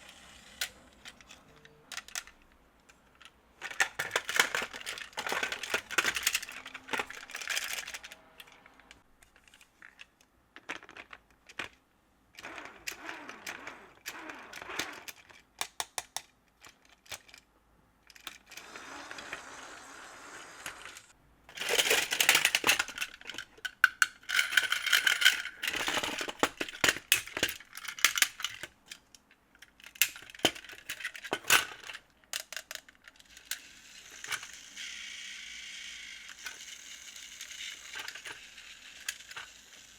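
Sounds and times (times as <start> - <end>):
plastic toy train clicks and rattles: 0.0 - 11.8, 12.4 - 19.6, 20.6 - 39.9.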